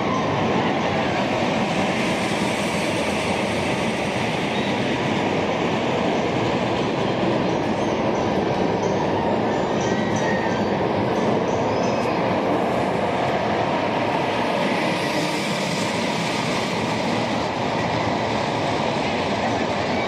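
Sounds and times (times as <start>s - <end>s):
roller coaster rolling on rails: 0.0s - 20.0s.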